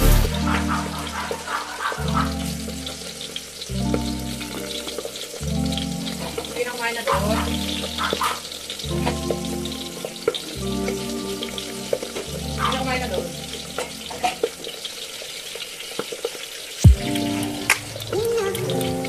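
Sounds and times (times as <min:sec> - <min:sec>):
background music low notes: 0:00.0 - 0:16.2, 0:16.8 - 0:19.0
oil popping and crackling: 0:00.0 - 0:19.0
fish frying in oil: 0:00.1 - 0:19.0.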